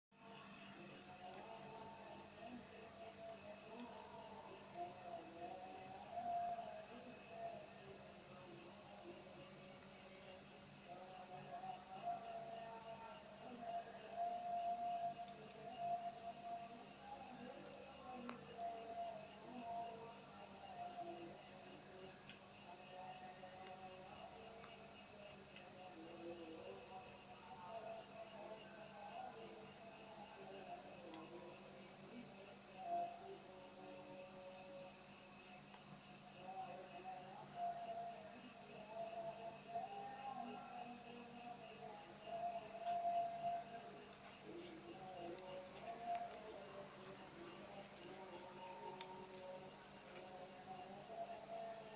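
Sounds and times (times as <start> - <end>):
crickets trilling: 0.2 - 51.9
insect chirp: 0.2 - 51.9.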